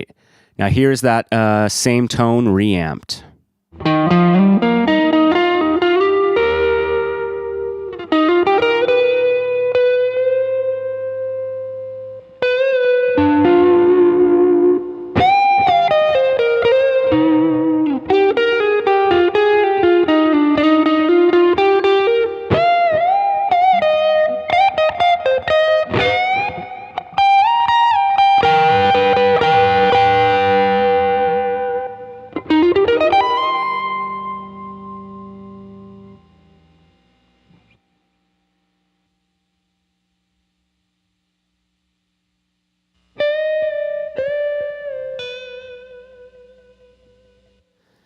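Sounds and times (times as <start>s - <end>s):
electric guitar lead: 3.8s - 37.8s, 43.1s - 47.7s.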